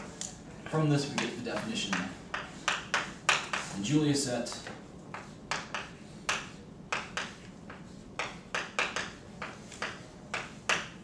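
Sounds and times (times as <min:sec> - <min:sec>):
chalk writing on blackboard: 0:00.0 - 0:11.0
faint room hum: 0:00.0 - 0:11.0.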